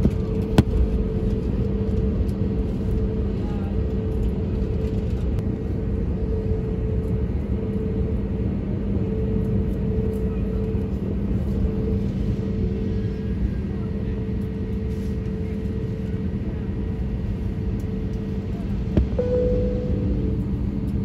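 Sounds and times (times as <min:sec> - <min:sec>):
airliner cabin rumble: 0:00.0 - 0:21.0
constant low hum: 0:00.0 - 0:21.0.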